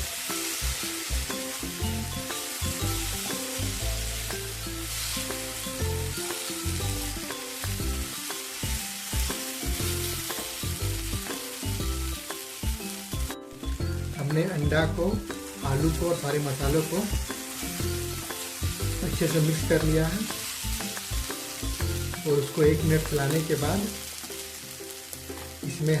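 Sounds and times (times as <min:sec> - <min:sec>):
food being stirred in a pan: 0:00.0 - 0:14.6, 0:15.2 - 0:25.6
background music: 0:00.0 - 0:26.0
food sizzling in a pan: 0:00.0 - 0:26.0.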